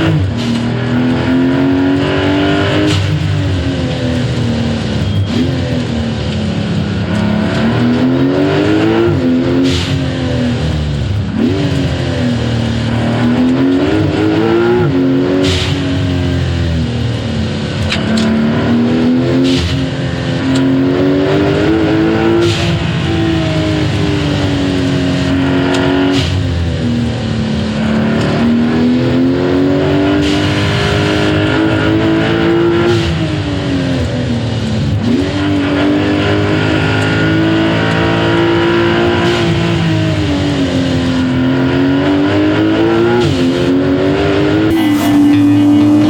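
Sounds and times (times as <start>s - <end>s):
car engine revving hard: 0.0s - 46.0s.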